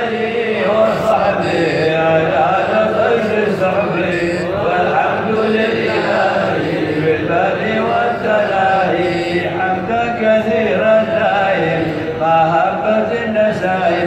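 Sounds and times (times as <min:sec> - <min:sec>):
man chanting into microphone: 0:00.0 - 0:14.0.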